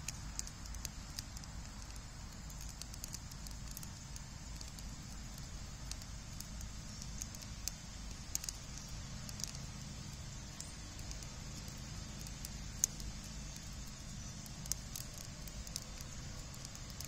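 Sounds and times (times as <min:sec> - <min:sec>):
campfire crackling and popping: 0:00.0 - 0:17.0
low steady rumble: 0:00.0 - 0:17.0.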